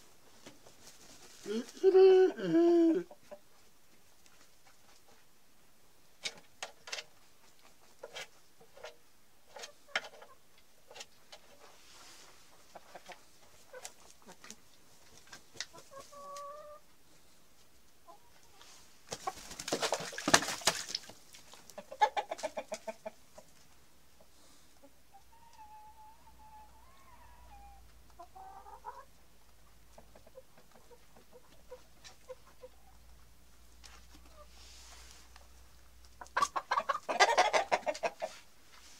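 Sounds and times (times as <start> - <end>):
chicken flurry: 0.3 - 1.9, 6.2 - 16.8, 18.1 - 23.8, 24.8 - 38.8
chickens clucking: 0.3 - 38.9.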